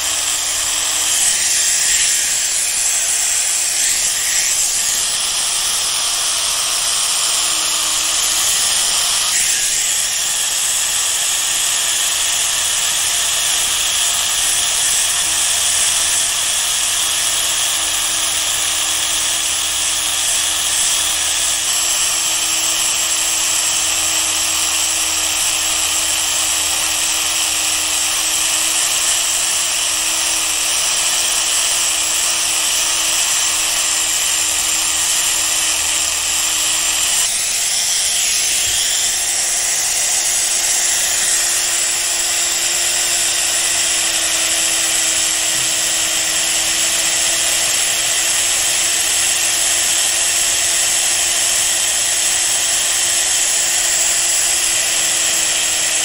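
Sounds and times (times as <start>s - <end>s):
power tool hissing and humming: 0.0s - 56.0s.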